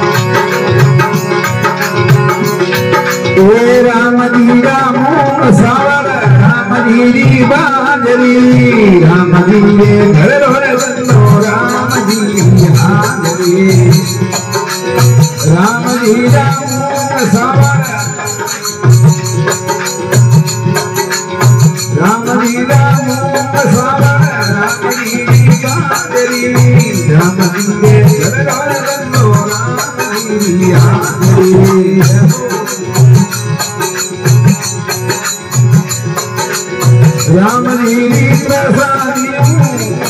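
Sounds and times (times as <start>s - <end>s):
hand drum beat: 0.0s - 3.7s, 8.5s - 40.0s
harmonium melody: 0.0s - 40.0s
jingling percussion: 0.0s - 40.0s.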